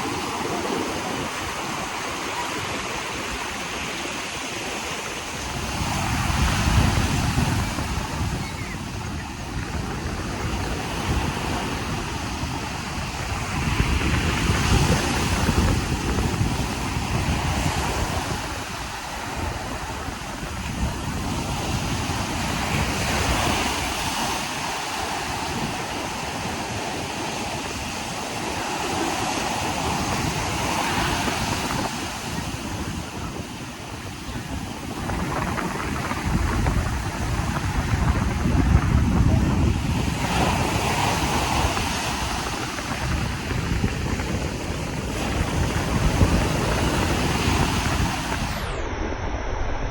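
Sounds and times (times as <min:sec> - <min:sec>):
surf washing up a beach: 0:00.0 - 0:48.9
wind rumble on microphone: 0:00.0 - 0:49.9.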